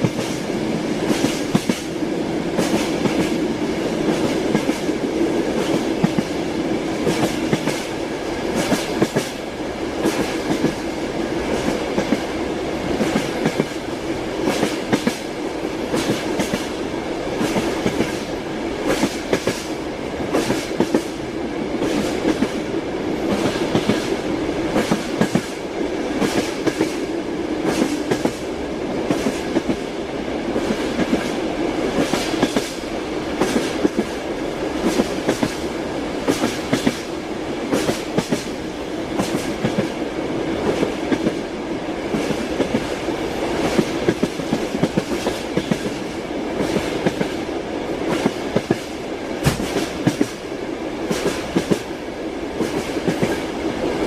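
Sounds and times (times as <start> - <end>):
train wheels clacking: 0.0 - 6.4, 7.0 - 21.2, 21.8 - 29.9, 30.5 - 38.6, 39.2 - 40.0, 42.0 - 52.0, 52.6 - 53.5
railway carriage rumble: 0.0 - 54.0.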